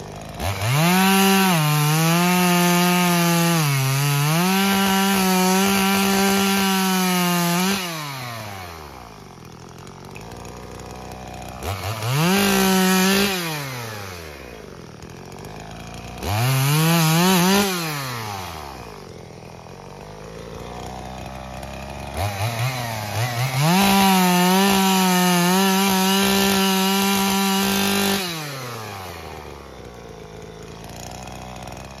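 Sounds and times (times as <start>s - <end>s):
chainsaw revving: 0.0s - 32.0s.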